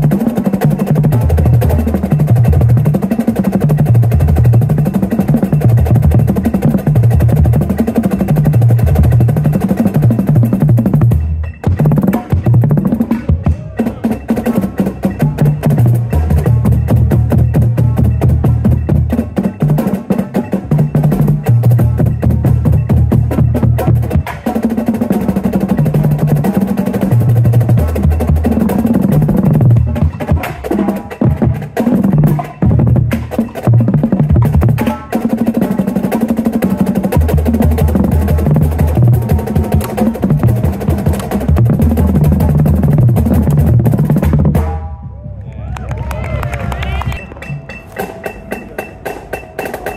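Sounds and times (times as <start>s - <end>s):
marching bass drums playing: 0.0s - 45.8s, 46.4s - 49.9s.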